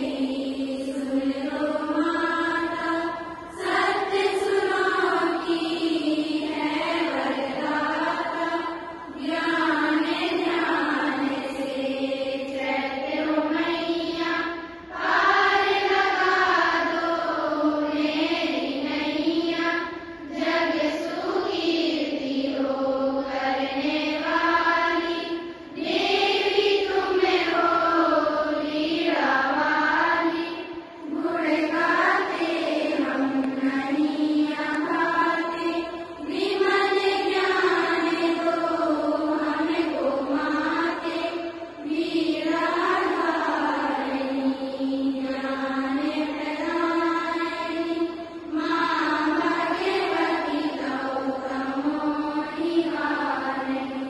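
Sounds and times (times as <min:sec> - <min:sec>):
girls chanting in unison: 0:00.0 - 0:54.0.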